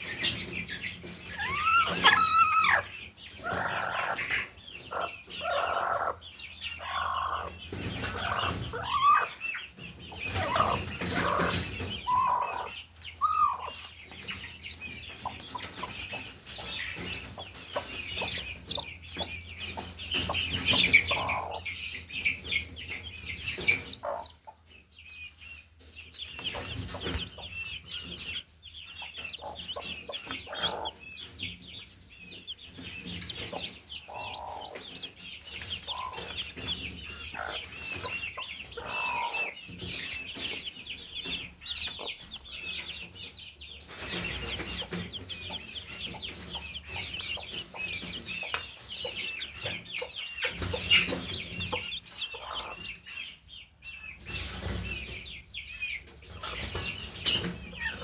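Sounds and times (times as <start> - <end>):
baby chicks peeping: 0.0 - 58.0
hen clucking: 0.0 - 58.0.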